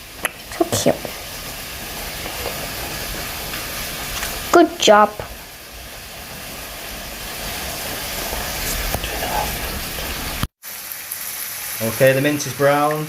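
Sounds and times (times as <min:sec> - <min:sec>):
mince sizzling in a pan: 0:00.0 - 0:13.0.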